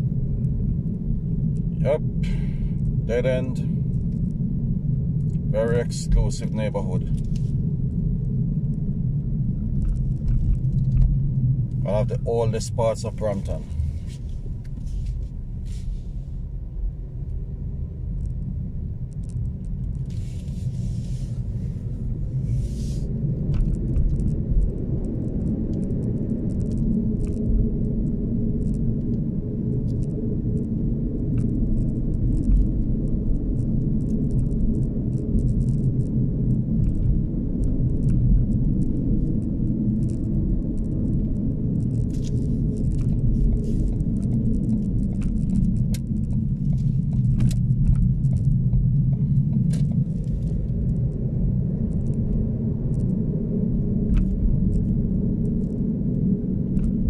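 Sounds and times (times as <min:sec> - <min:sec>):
car driving heard from cabin: 0:00.0 - 0:57.0.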